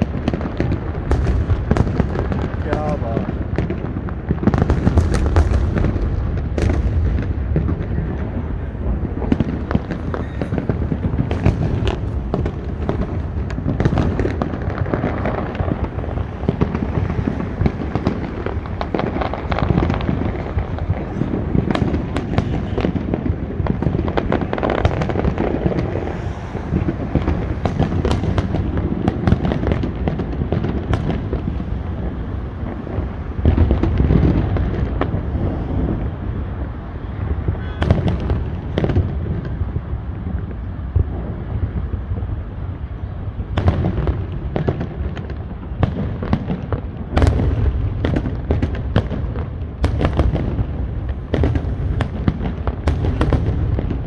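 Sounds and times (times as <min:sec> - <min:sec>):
constant low rumble: 0:00.0 - 0:54.0
fireworks booming and crackling: 0:00.0 - 0:54.0.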